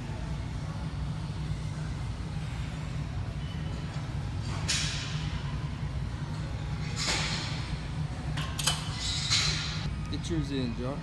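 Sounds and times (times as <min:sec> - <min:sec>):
gym room rumble: 0:00.0 - 0:11.0.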